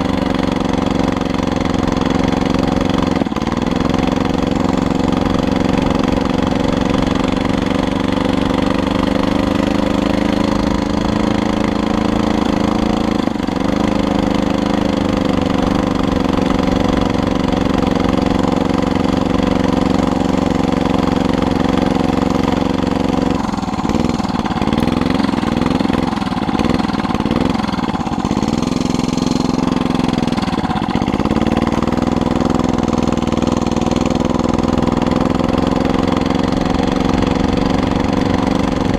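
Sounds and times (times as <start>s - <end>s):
small motorbike engine putting: 0.0s - 38.9s.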